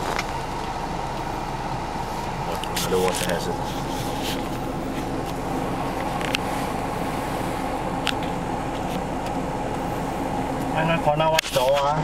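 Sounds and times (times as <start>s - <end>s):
vehicle engine drone in cab: 0.0s - 12.0s.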